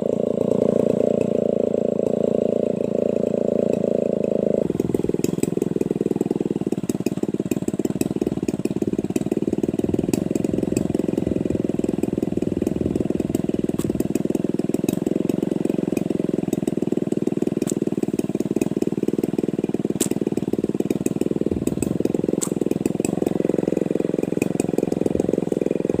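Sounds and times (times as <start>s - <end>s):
chainsaw engine running: 0.0s - 26.0s.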